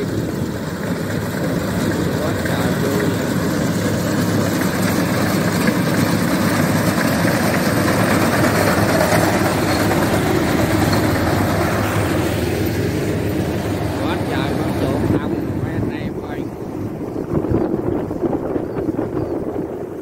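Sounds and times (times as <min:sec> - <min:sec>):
combine harvester engine droning: 0:00.0 - 0:20.0.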